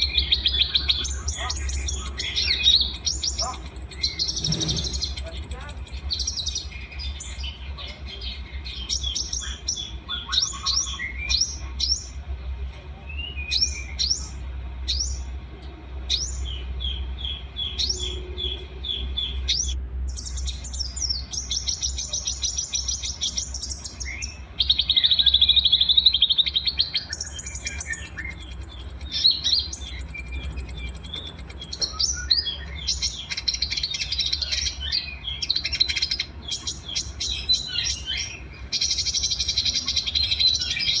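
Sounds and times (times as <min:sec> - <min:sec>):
buzzy rattling bird trill: 0:00.0 - 0:12.2, 0:16.1 - 0:41.0
songbirds chirping and trilling: 0:00.0 - 0:41.0
steady low hum: 0:00.0 - 0:41.0.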